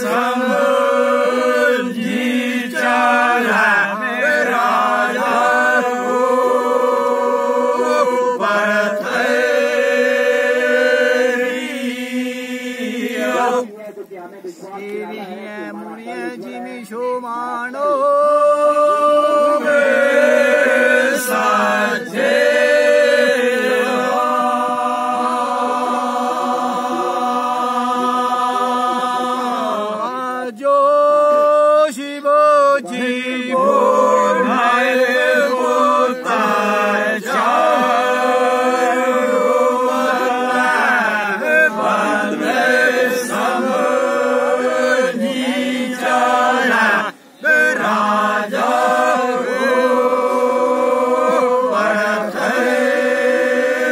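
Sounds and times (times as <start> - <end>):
men singing without instruments: 0.0 - 13.6, 16.1 - 53.9
low held vocal drone: 0.0 - 13.7, 17.6 - 53.9.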